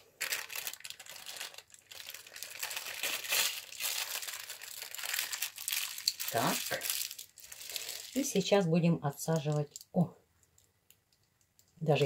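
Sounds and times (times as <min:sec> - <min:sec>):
plastic piping bag crinkling: 0:00.0 - 0:12.0.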